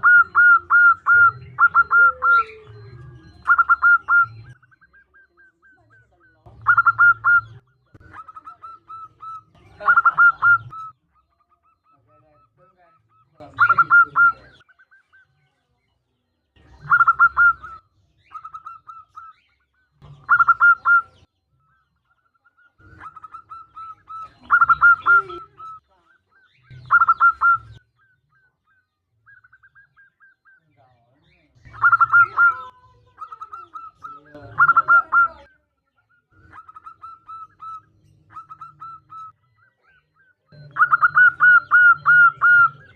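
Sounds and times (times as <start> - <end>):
dove cooing: 0.0 - 15.3, 16.6 - 30.7, 31.6 - 42.9.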